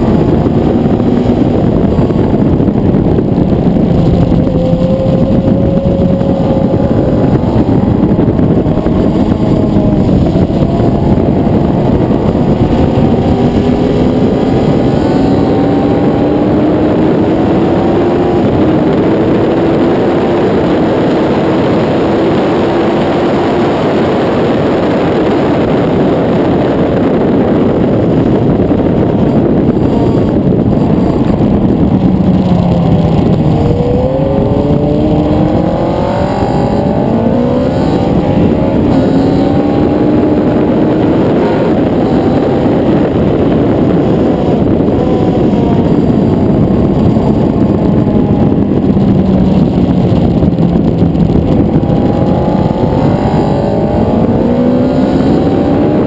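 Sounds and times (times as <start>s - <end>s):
motorcycle engine at high revs: 0.0s - 56.0s
wind noise rushing: 0.0s - 56.0s.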